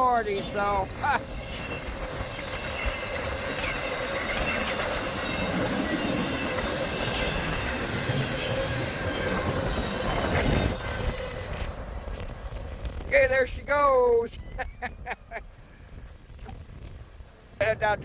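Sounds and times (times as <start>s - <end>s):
freight train cars rolling: 0.0s - 18.0s.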